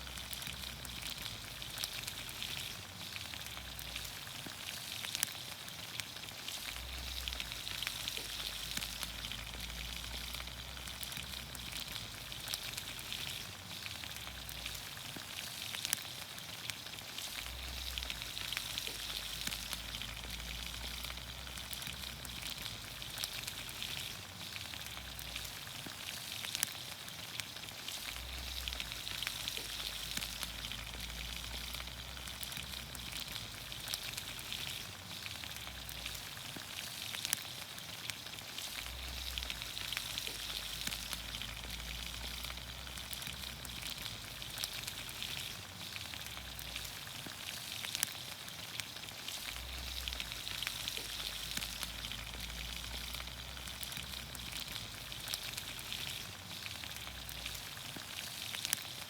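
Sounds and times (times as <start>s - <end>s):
small pops and crackles: 0.0s - 59.0s
vegetables sizzling in oil: 0.0s - 59.0s.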